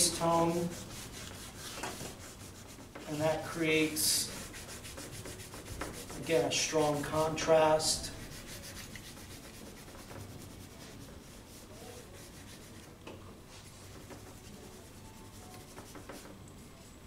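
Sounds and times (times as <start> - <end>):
charcoal rubbing on paper: 0.0 - 12.9, 13.5 - 16.3.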